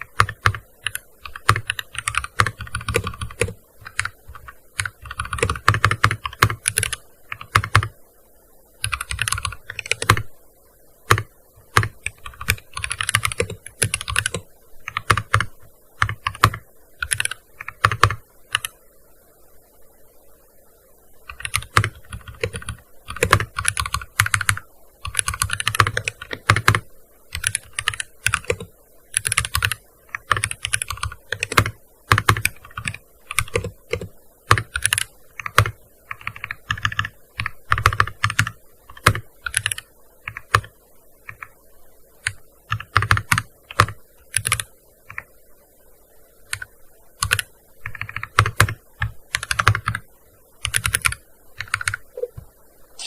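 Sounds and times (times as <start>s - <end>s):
keyboard typing: 0.0s - 7.9s, 8.8s - 10.3s, 11.0s - 18.8s, 21.3s - 40.7s, 41.3s - 41.6s, 42.2s - 45.3s, 46.5s - 50.0s, 50.6s - 52.4s.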